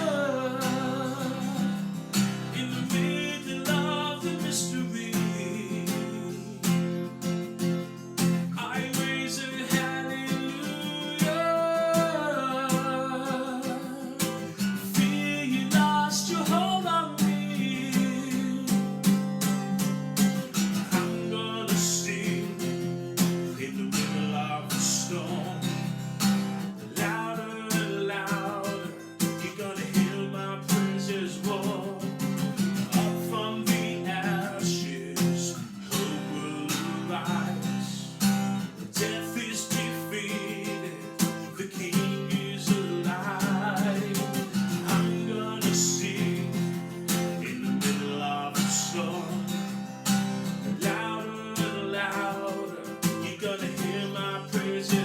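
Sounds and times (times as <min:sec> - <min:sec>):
strummed acoustic guitar chords: 0:00.0 - 0:55.0.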